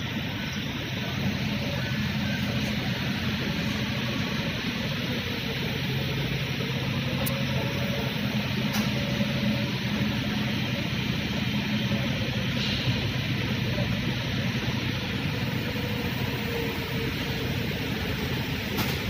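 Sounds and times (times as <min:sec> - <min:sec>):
forklift engine humming: 0:00.0 - 0:19.0.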